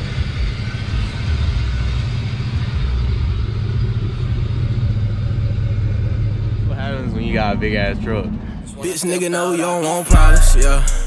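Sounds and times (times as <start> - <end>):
truck engine running: 0.0 - 8.8, 10.1 - 11.0.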